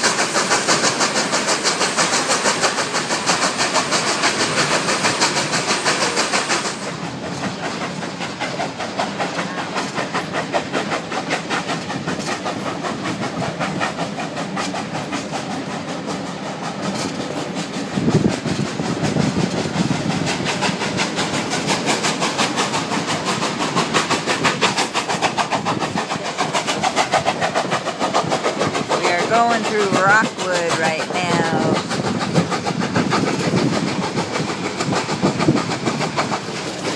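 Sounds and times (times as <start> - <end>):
train clattering on tracks: 0.0 - 36.9.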